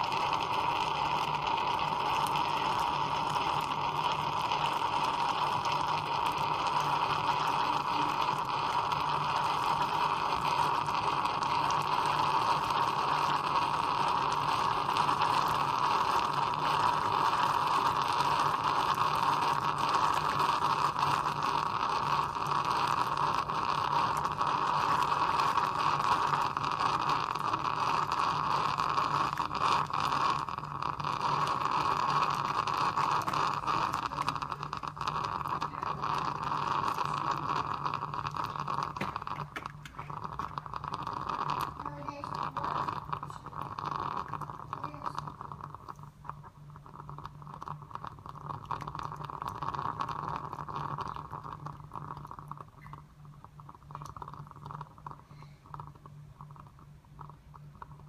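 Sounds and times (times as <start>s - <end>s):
espresso maker hissing gurgle: 0.0s - 58.0s
low steady hum: 0.0s - 58.0s.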